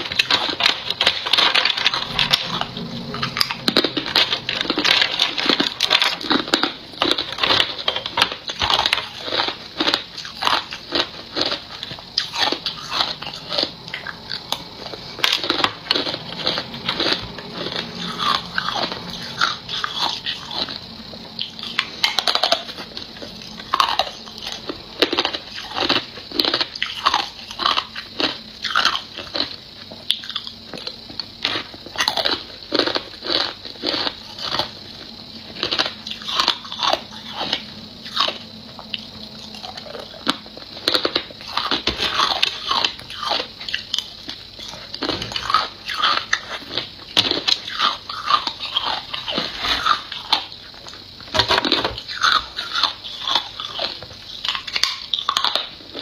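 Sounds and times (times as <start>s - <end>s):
ice crunching being chewed: 0.0s - 56.0s.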